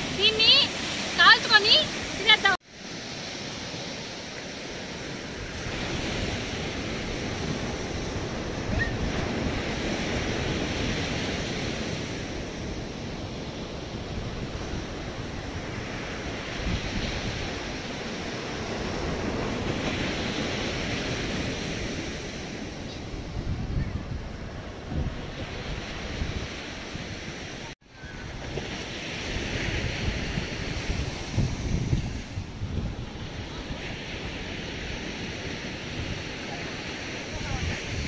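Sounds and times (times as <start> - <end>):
surf breaking on sandy beach: 0.0 - 38.0
wind buffeting microphone: 5.3 - 36.6, 37.2 - 38.0.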